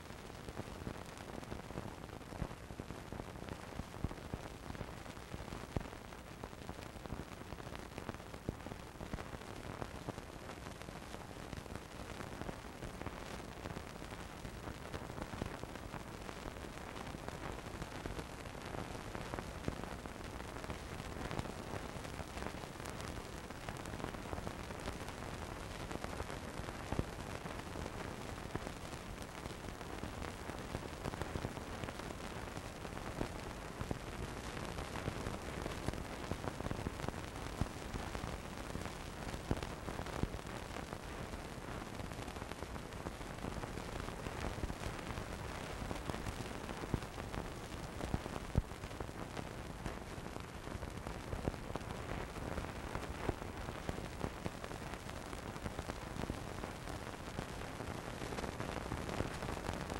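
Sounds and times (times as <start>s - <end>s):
film hiss with crackles: 0.0s - 59.9s.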